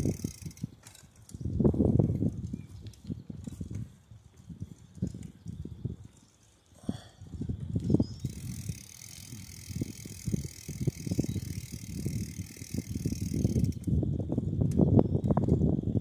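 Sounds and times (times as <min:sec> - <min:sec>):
bicycle rattling and knocking: 0:00.0 - 0:06.5, 0:07.4 - 0:15.8.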